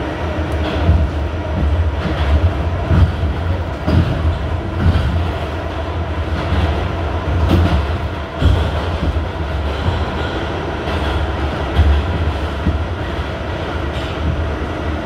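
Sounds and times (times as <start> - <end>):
subway train rumbling in tunnel: 0.0 - 15.0
wheels clacking over rail joints: 0.5 - 14.8.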